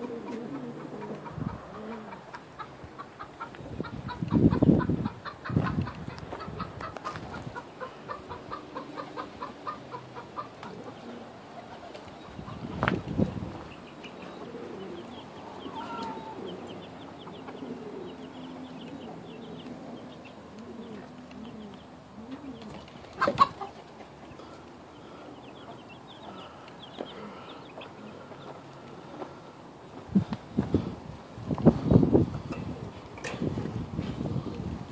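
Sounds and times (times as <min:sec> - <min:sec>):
hens clucking: 0:00.0 - 0:34.7.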